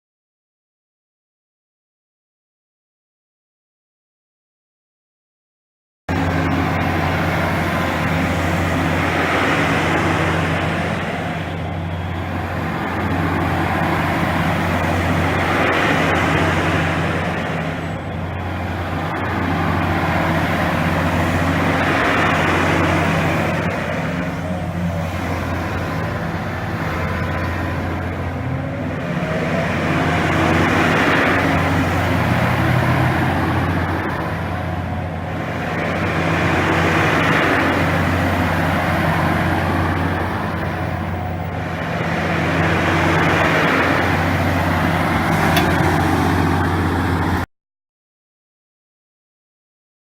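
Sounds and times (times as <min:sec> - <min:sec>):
excavator diesel engine running: 0:06.1 - 0:47.5.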